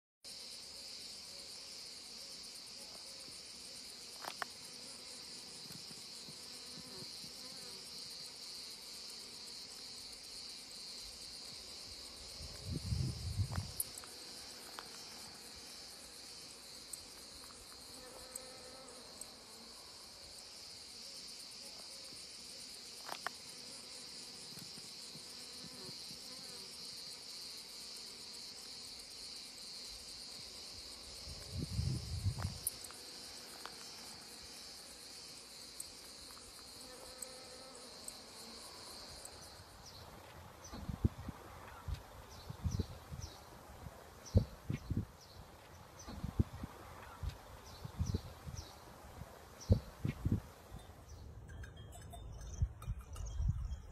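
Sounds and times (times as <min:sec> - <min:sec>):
insects chirring: 0:00.3 - 0:53.9.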